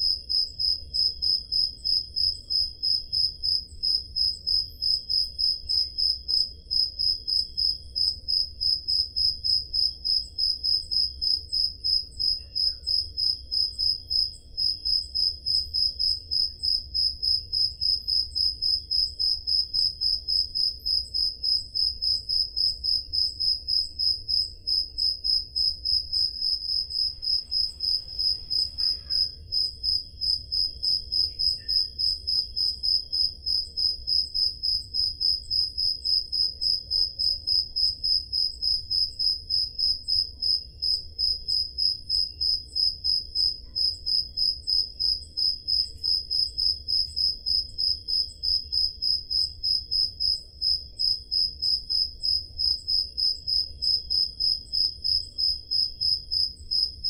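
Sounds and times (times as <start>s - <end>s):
faint crickets pulsing: 0.0s - 57.0s
loud cricket chirp: 0.0s - 57.0s.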